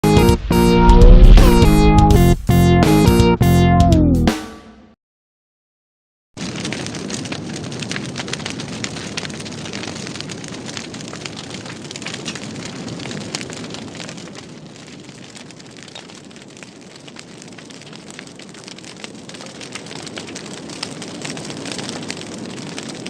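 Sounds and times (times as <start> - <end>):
fire crackling and popping: 0.0 - 2.2, 6.4 - 23.0
fire roaring: 0.1 - 2.3, 6.4 - 23.0.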